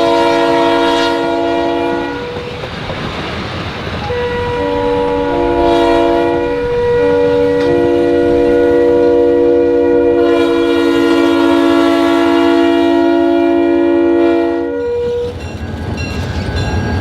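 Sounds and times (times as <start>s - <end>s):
locomotive air horn blasts: 0.0s - 2.6s, 4.0s - 15.3s
passing train rumble: 0.0s - 17.0s.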